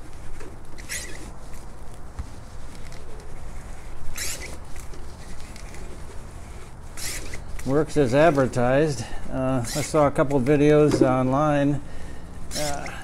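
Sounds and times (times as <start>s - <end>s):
fluid pump drawing oil: 0.0s - 11.2s, 11.9s - 13.0s.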